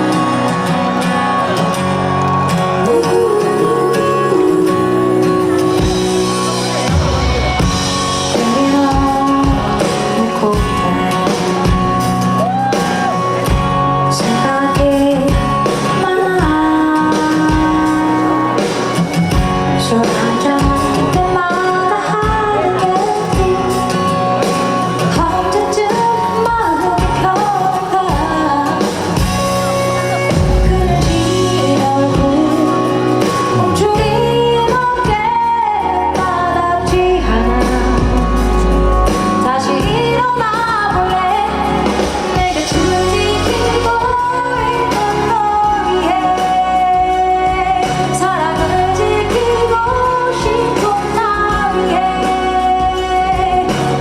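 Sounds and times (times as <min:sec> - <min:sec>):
instrumental accompaniment: 0:00.0 - 0:54.0
woman singing pop ballad: 0:00.0 - 0:54.0.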